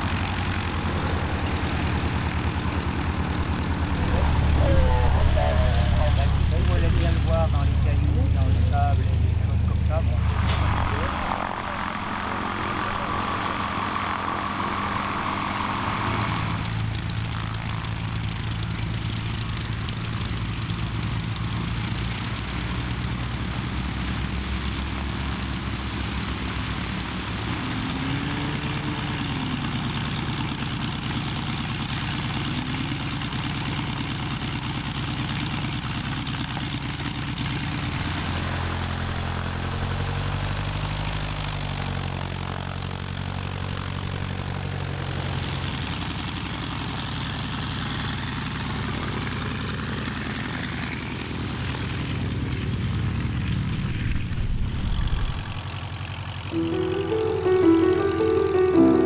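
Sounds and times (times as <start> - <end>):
light aircraft engines idling: 0.0 - 59.0.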